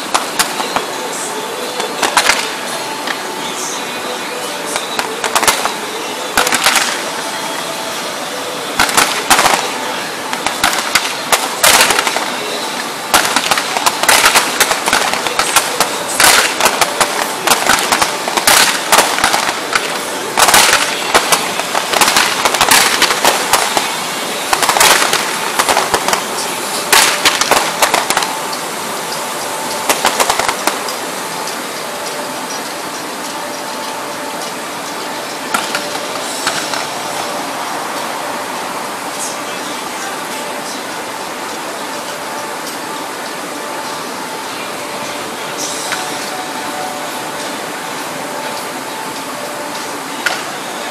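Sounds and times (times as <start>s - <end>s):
fireworks banging and crackling: 0.0s - 50.9s.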